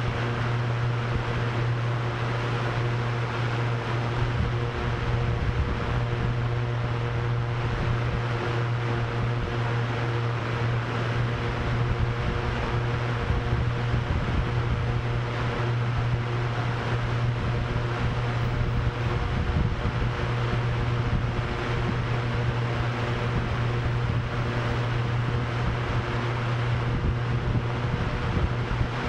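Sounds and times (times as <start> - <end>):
drone propellers whirring: 0.0 - 29.0
gusty wind: 0.0 - 29.0.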